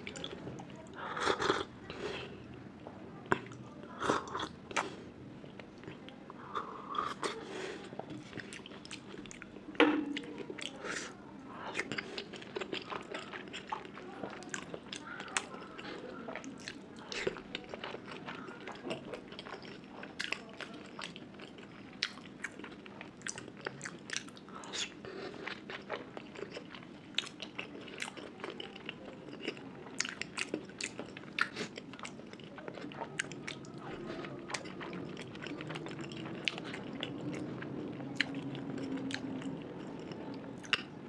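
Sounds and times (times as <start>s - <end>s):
faint steady hum: 0.0s - 41.0s
person chewing food: 3.3s - 41.0s.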